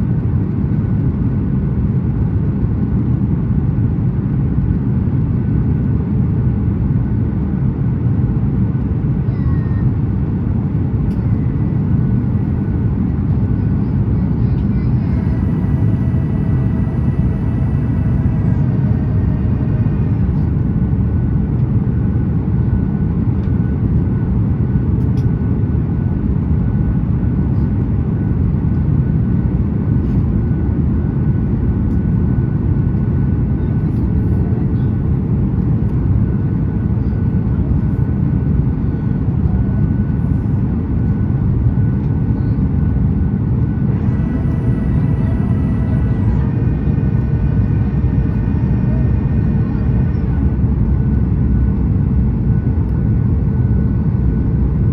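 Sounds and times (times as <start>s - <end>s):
airplane cabin rumble: 0.0s - 54.9s
faint engine whine: 0.0s - 54.9s.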